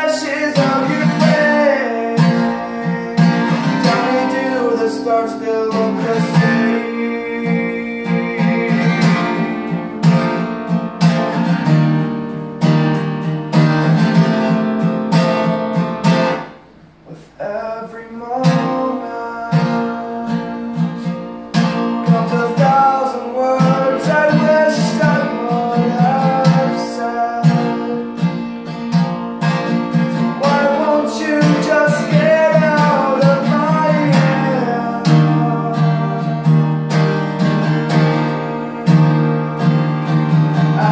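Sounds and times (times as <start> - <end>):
man singing: 0.0 - 10.7, 17.0 - 28.5, 29.9 - 40.9
acoustic guitar strumming: 0.0 - 40.9.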